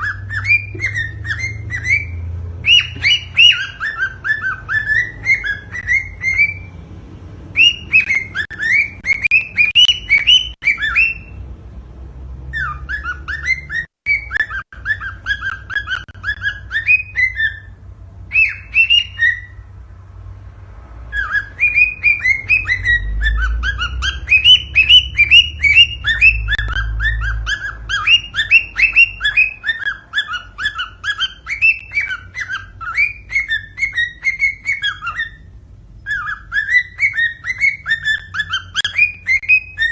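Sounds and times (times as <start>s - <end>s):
cockatiel whistled chirps: 0.0s - 6.7s, 7.5s - 11.4s, 12.5s - 19.7s, 21.1s - 39.9s.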